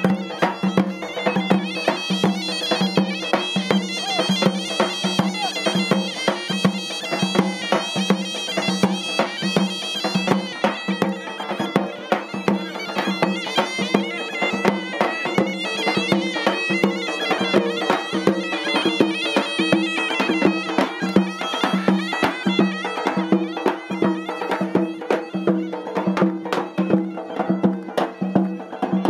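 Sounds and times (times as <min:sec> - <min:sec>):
quick percussive beats: 0:00.0 - 0:29.0
reed pipe playing fast folk tune: 0:00.0 - 0:29.0.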